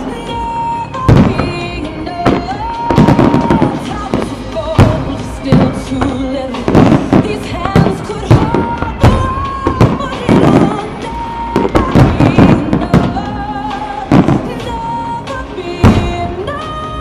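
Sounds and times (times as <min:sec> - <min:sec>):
loud music: 0:00.0 - 0:17.0
fireworks bangs: 0:01.0 - 0:15.1, 0:15.8 - 0:16.6.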